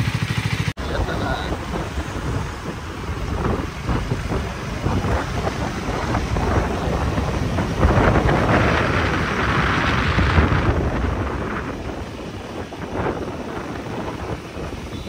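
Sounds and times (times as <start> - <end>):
motorcycle engine: 0.0 - 15.0
wind buffeting microphone: 0.8 - 15.0.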